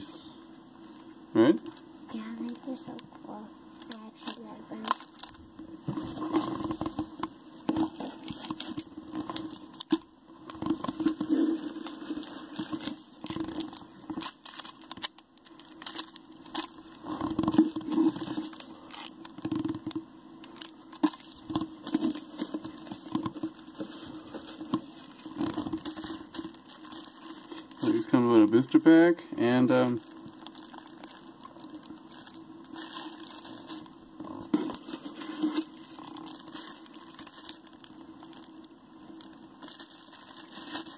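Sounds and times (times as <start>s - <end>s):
plastic packaging being opened: 3.8s - 5.4s, 6.0s - 28.8s, 29.7s - 40.9s.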